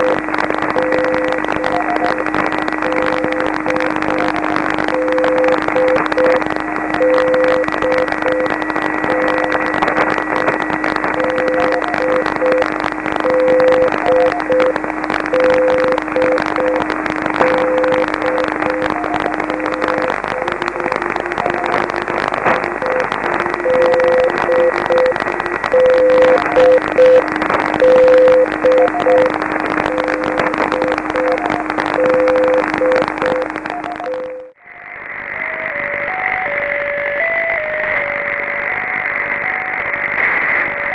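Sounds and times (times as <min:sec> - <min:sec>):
morse code beeps: 0:00.0 - 0:34.6
radio band noise hiss: 0:00.0 - 0:40.9.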